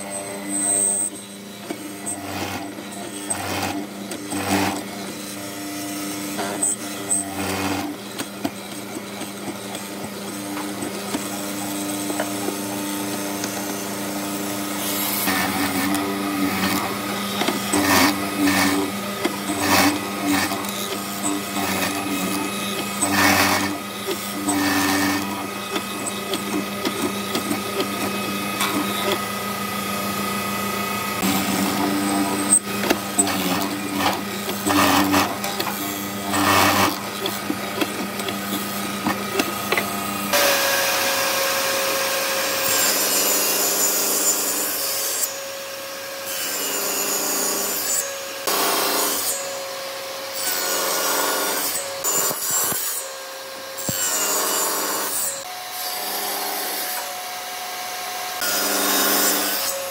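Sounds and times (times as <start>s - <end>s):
mortiser motor hum: 0.0s - 59.9s
table saw cutting wood: 0.0s - 59.9s.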